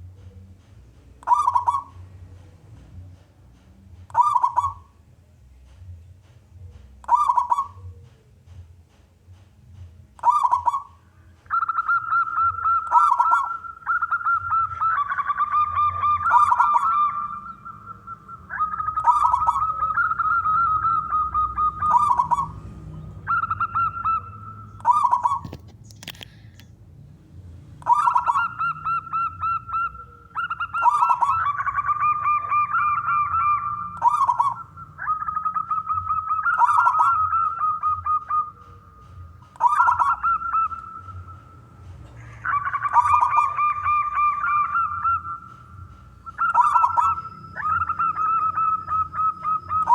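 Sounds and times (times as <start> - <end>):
dove cooing: 0.0 - 2.9, 4.0 - 5.0, 6.6 - 8.4, 10.2 - 26.2, 27.8 - 49.9.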